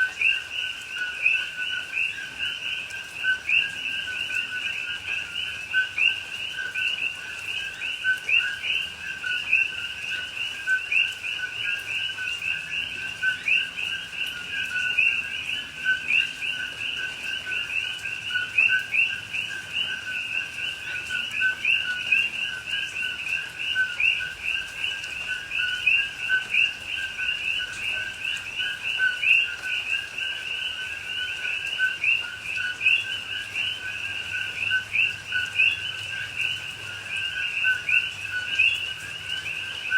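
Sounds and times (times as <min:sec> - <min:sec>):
frogs chorus calling: 0:00.0 - 0:39.9.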